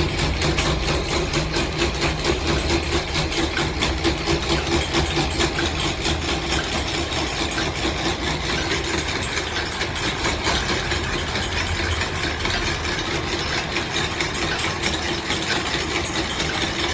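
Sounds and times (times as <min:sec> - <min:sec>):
machine humming and pulsing: 0:00.0 - 0:16.9.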